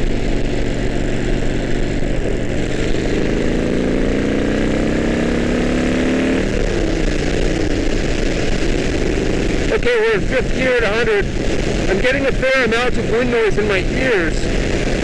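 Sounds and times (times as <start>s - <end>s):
wind rush on microphone: 0.0s - 3.8s, 6.4s - 15.0s
motorcycle engine accelerating: 0.0s - 15.0s.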